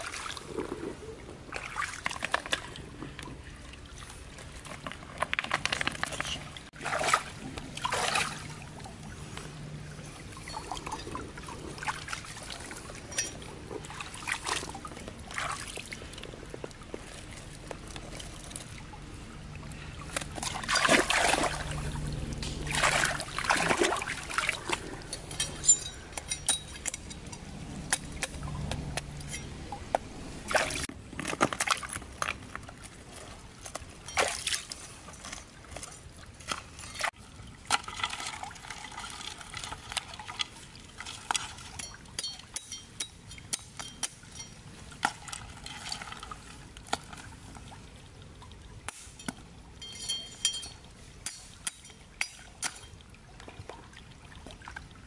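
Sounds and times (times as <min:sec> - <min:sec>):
water splashing: 0:00.0 - 0:42.6, 0:43.8 - 0:55.0
stream water trickling: 0:00.0 - 0:55.0.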